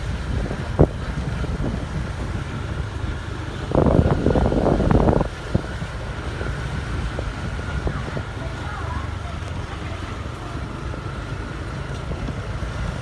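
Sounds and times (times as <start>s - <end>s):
motorbike engine rumble: 0.0s - 13.0s
wind noise on microphone: 0.0s - 13.0s.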